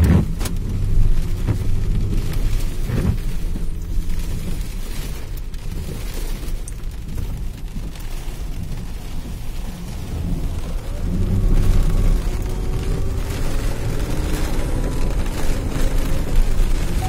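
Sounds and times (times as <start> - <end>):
car engine rumble: 0.0 - 17.0
tyres on wet road: 0.0 - 17.0.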